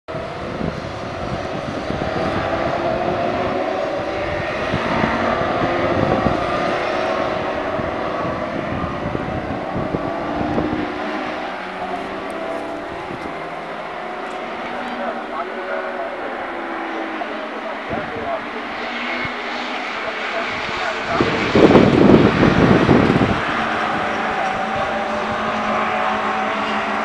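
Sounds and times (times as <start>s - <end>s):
race car engines revving: 0.1s - 27.0s.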